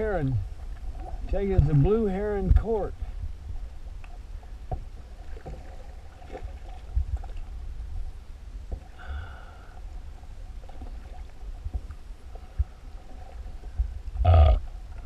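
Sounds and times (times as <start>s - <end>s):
water noise: 0.0s - 15.0s.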